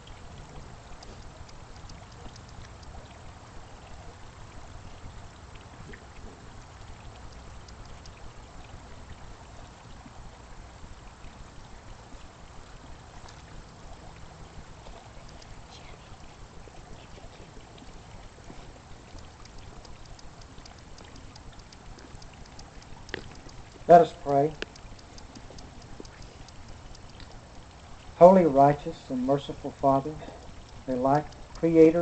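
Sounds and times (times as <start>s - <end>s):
fountain water splashing: 0.0s - 32.0s.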